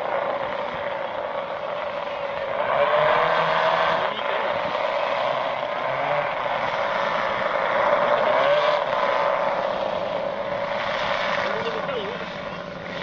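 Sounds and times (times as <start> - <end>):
model airplane engines droning: 0.0 - 13.0.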